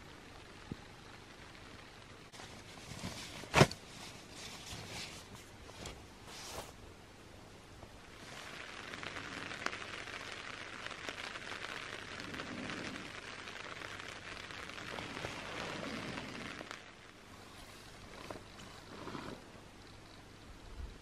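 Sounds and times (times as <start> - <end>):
light rain pattering on a tarp: 0.0 - 6.9, 7.7 - 19.6.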